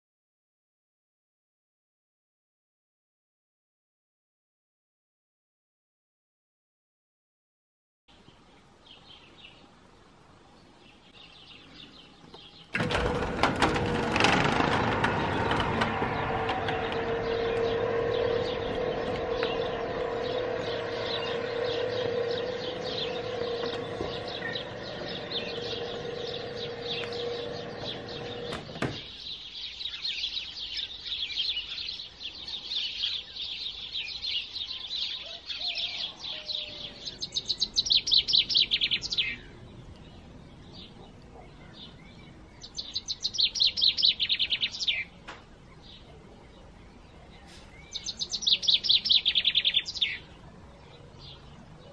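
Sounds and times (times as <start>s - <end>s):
songbirds singing: 8.1s - 51.9s.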